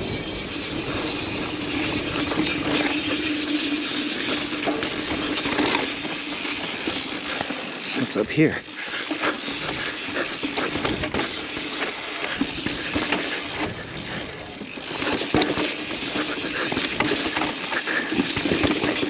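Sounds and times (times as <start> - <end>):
bike knocking and rattling: 0.0 - 19.0
bike tyre and trail noise: 0.0 - 19.0.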